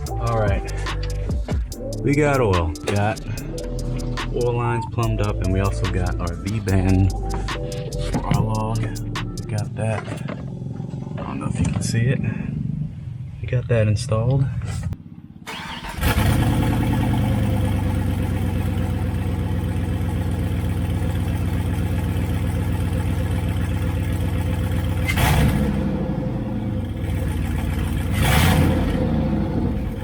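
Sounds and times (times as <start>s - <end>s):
engine idling and revving: 0.0s - 30.0s.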